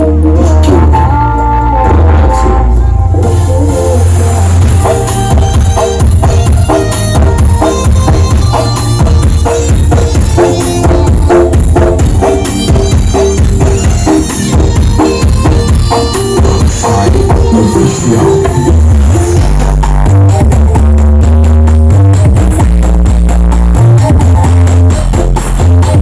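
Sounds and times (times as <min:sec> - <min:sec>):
drums: 0:00.0 - 0:26.0
heavy deep bass line: 0:00.0 - 0:26.0.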